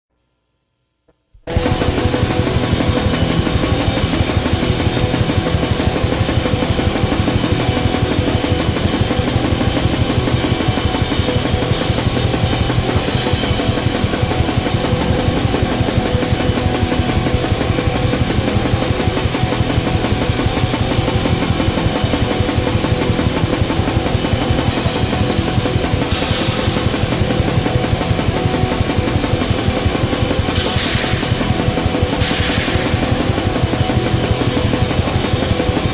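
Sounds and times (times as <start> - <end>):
distorted guitars: 1.4 - 35.9.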